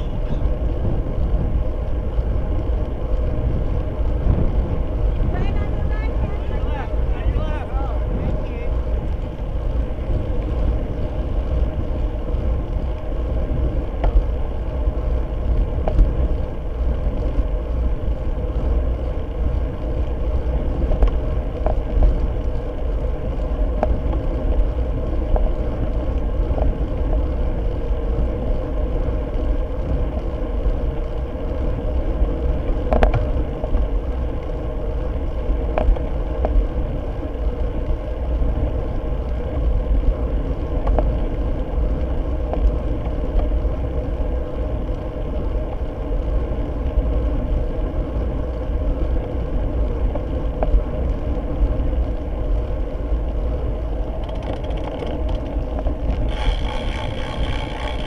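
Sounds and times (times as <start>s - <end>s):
sharp ticks from road bumps: 0.0s - 58.0s
steady hum: 0.0s - 58.0s
wind and road rumble: 0.0s - 58.0s.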